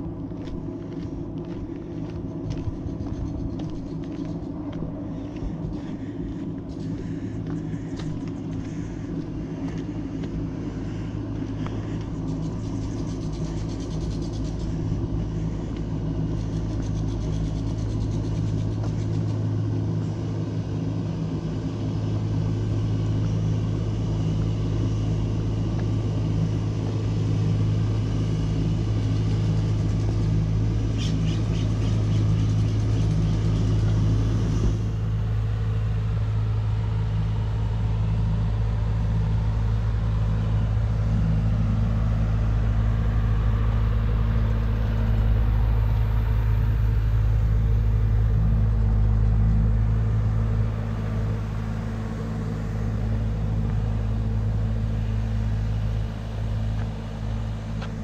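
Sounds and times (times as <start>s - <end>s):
low hum: 0.0s - 58.0s
low rumble: 0.0s - 58.0s.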